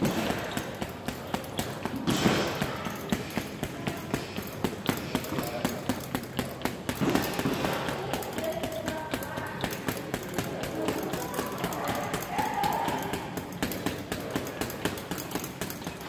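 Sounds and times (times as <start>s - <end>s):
boxing gloves hitting a punching bag: 0.0s - 16.0s.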